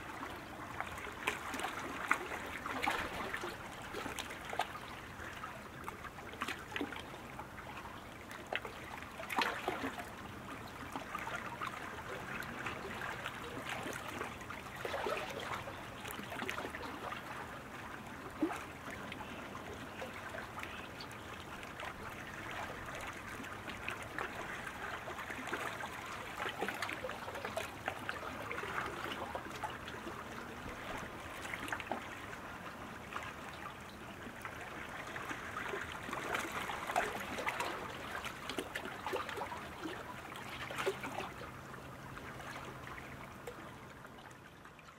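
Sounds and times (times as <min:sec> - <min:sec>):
water splashing and trickling: 0:00.0 - 0:44.9.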